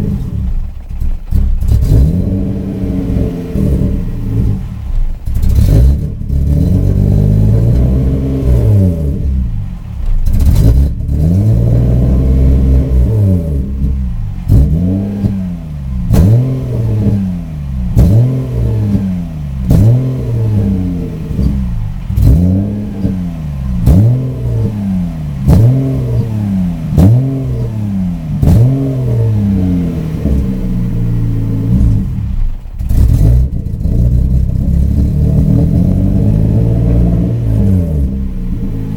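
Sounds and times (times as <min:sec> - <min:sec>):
engine revving and misfiring: 0:00.0 - 0:38.9.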